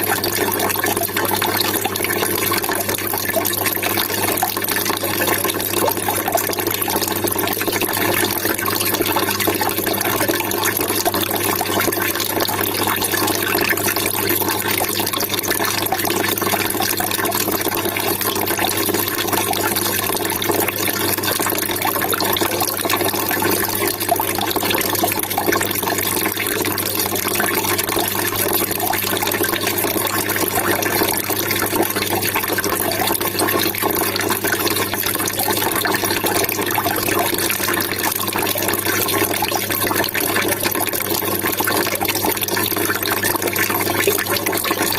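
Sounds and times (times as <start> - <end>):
water trickling and splashing: 0.0 - 44.9.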